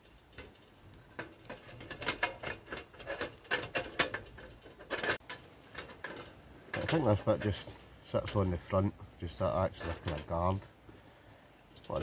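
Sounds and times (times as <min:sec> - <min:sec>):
metal stove parts clicking: 0:00.0 - 0:08.7, 0:09.6 - 0:10.6, 0:11.7 - 0:12.0.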